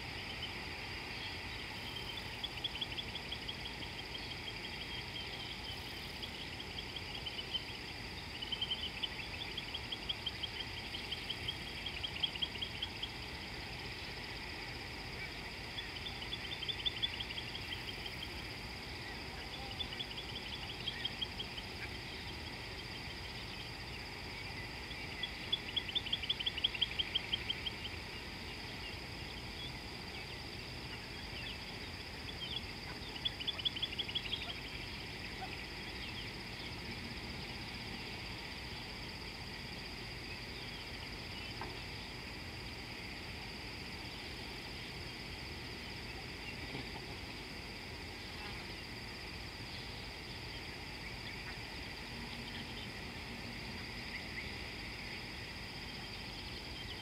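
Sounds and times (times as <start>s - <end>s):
steady high-pitched hum: 0.0s - 57.0s.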